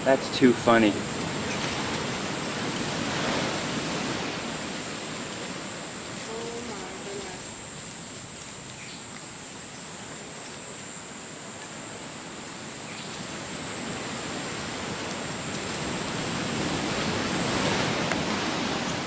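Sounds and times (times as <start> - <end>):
steady rushing noise: 0.0 - 8.8, 10.2 - 19.0.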